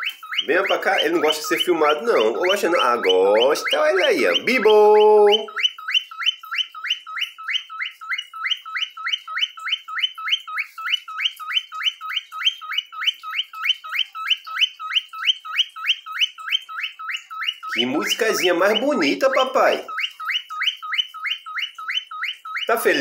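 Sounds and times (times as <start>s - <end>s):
cockatiel whistling: 0.0s - 23.0s.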